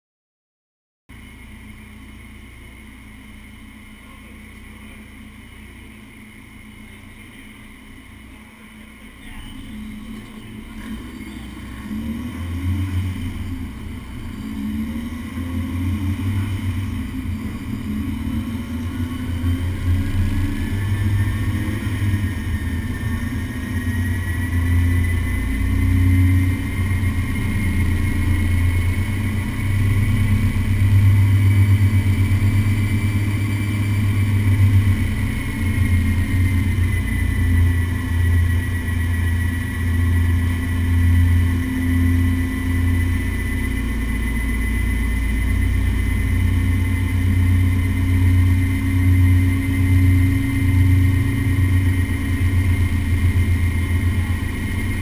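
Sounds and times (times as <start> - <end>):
thin rising whine: 1.1 - 55.0
car engine revving: 1.6 - 55.0.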